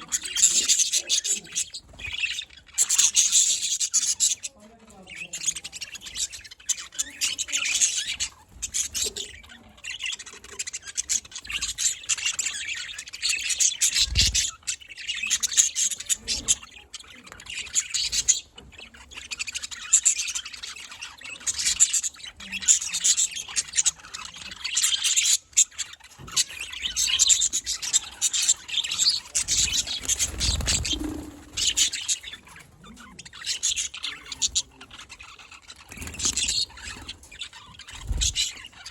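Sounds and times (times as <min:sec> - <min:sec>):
budgerigars chirping and warbling: 0:00.0 - 0:38.9.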